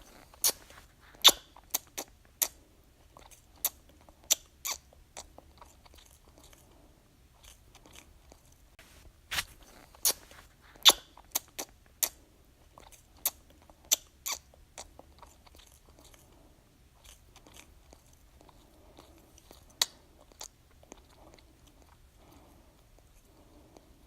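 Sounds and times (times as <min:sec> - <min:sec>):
baby sucking on a pacifier: 0:00.0 - 0:06.7, 0:07.4 - 0:16.3, 0:17.0 - 0:22.0.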